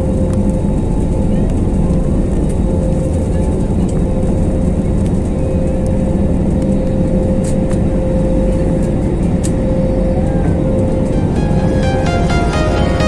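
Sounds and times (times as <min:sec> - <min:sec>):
airplane cabin engine rush: 0:00.0 - 0:13.0
constant mid-pitched hum: 0:00.0 - 0:13.0.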